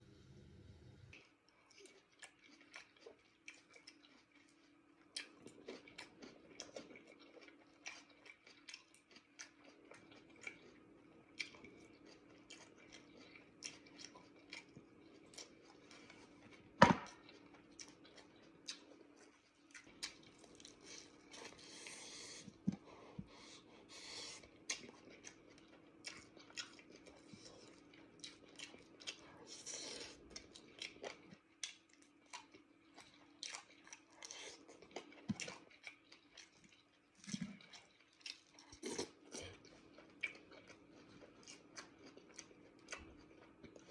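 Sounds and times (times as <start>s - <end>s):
faint steady hum: 0.0s - 43.9s
person chewing food: 1.1s - 43.9s.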